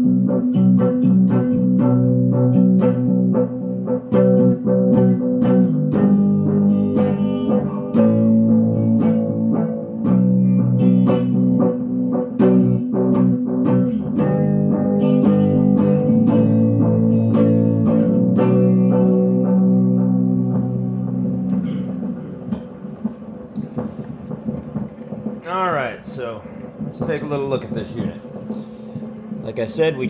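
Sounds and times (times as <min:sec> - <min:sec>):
electric guitar with echo: 0:00.0 - 0:25.4, 0:26.0 - 0:30.0.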